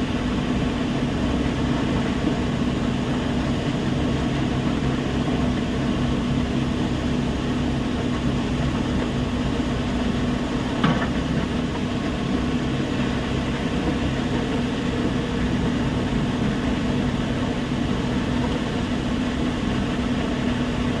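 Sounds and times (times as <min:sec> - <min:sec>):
heavy machinery humming: 0:00.0 - 0:21.0.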